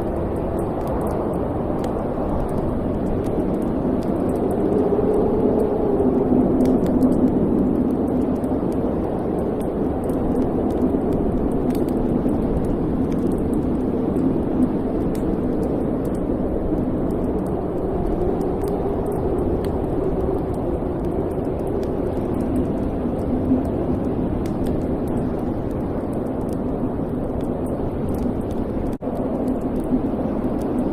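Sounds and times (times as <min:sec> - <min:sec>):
fire crackling: 0:00.0 - 0:30.9
fire popping: 0:00.0 - 0:30.9
roar of fire flames: 0:00.0 - 0:30.9.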